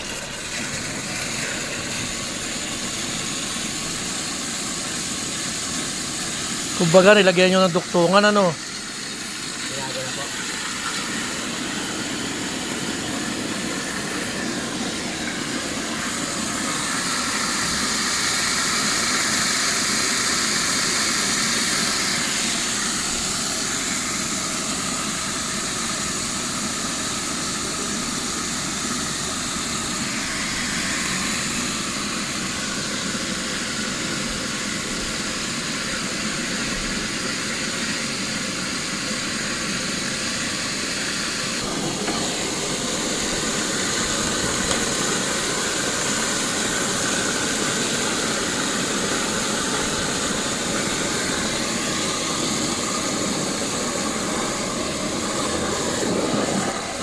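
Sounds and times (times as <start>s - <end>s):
water spraying from leaking pipe: 0.0s - 57.0s.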